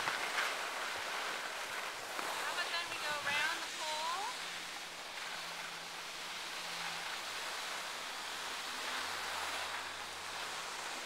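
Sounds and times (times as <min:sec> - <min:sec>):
skis sliding over packed snow: 0:00.0 - 0:11.0.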